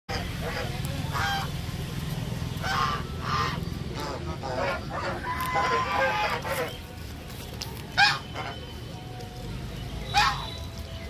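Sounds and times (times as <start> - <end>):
geese honking: 0.1 - 10.9.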